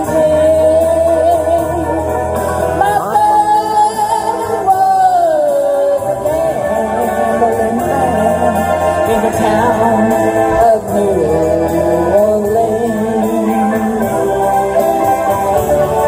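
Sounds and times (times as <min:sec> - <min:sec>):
backing music track: 0:00.0 - 0:16.0
woman singing into a microphone: 0:00.0 - 0:16.0.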